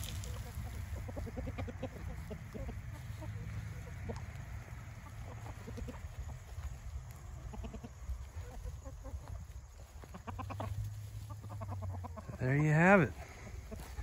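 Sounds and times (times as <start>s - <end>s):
hens clucking: 0.0s - 14.0s
hens pecking at feed: 0.0s - 14.0s.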